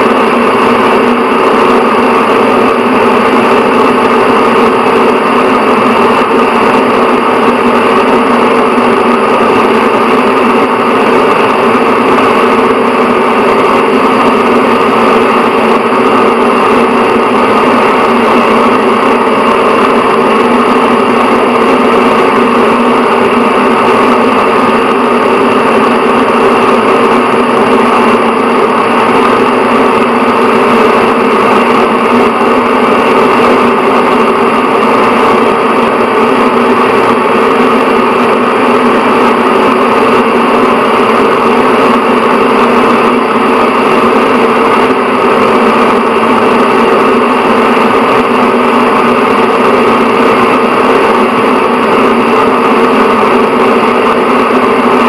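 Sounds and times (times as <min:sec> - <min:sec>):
bathroom exhaust fan running: 0:00.0 - 0:55.0.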